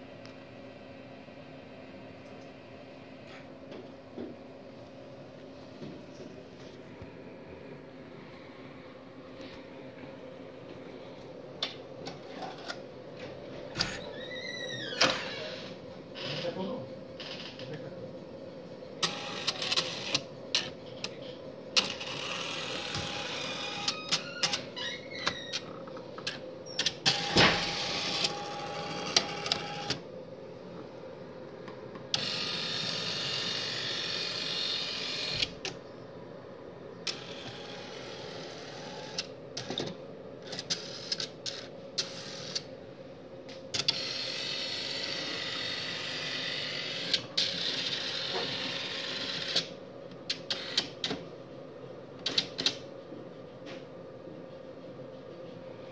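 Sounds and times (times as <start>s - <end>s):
steady hum: 0.0s - 55.9s.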